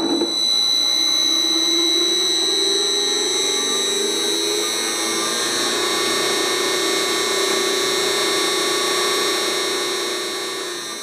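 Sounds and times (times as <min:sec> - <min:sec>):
electric motor hum and whine: 0:00.0 - 0:11.0.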